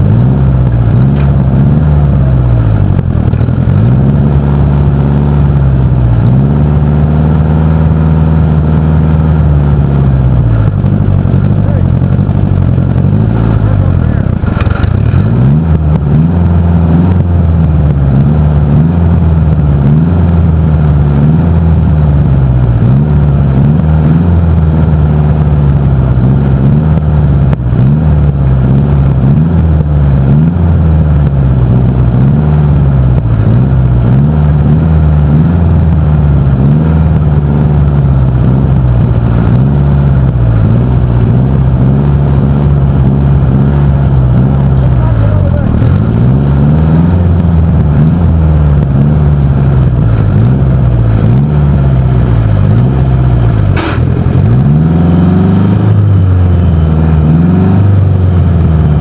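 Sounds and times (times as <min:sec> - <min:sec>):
tractor engine running loud: 0:00.0 - 0:59.0.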